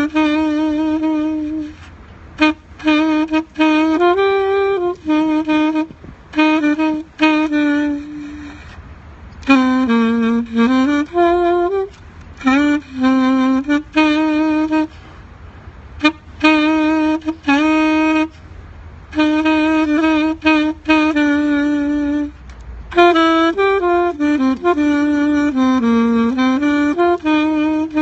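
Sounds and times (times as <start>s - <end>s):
saxophone playing a slow hymn: 0.0s - 28.0s.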